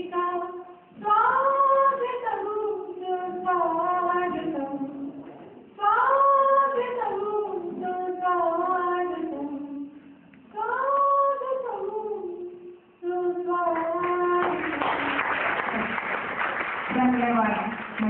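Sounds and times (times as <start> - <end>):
woman singing unaccompanied: 0.0 - 15.2.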